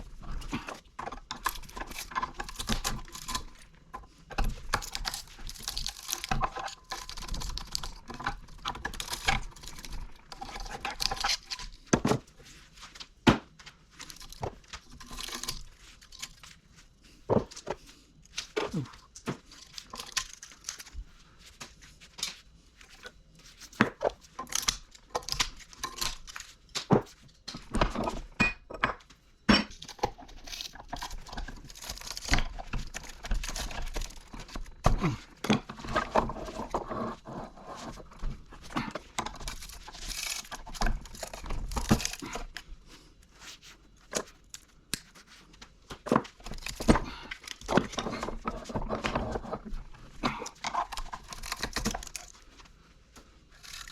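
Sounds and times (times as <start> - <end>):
crinkling tearing rustles: 0.0 - 27.8, 29.8 - 53.9.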